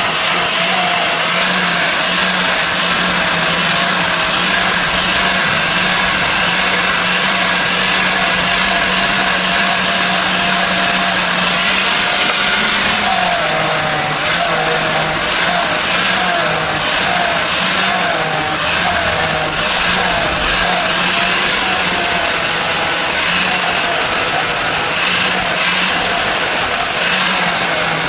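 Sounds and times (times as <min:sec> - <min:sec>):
electric motor humming: 0:00.0 - 0:28.0.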